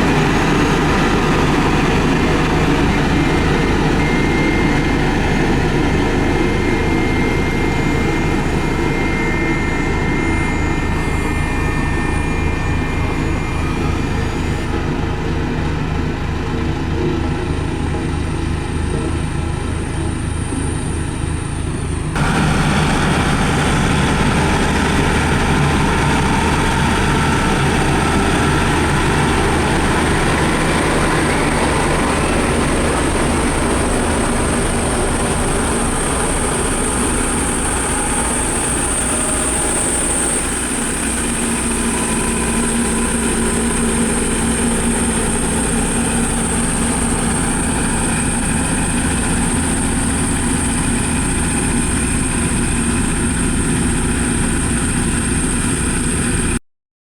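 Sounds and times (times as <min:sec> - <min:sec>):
diesel engine running under load: 0:00.0 - 0:56.6
high-pitched whine: 0:00.0 - 0:56.6.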